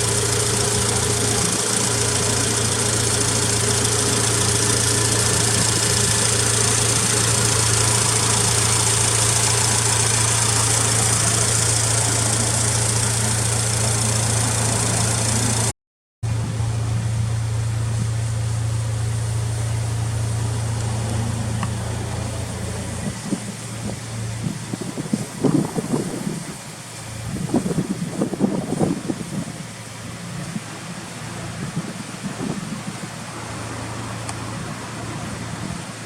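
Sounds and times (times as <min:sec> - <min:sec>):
car engine idling: 0:00.0 - 0:15.7, 0:16.3 - 0:36.0.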